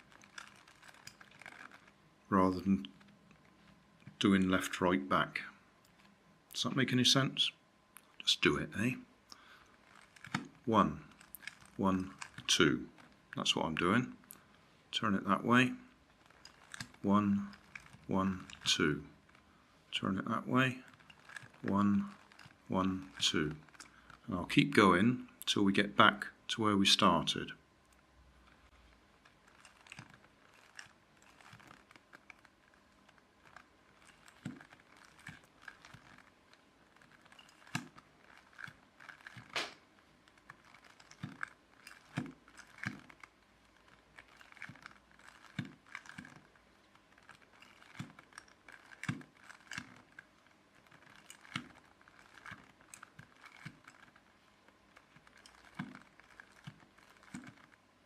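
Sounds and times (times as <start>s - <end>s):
puzzle cube clicking and rattling: 0.0s - 4.8s, 9.4s - 24.8s, 27.9s - 58.0s.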